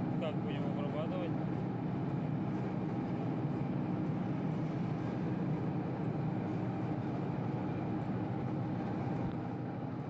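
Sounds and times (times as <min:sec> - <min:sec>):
lathe mechanical hum: 0:00.0 - 0:10.0.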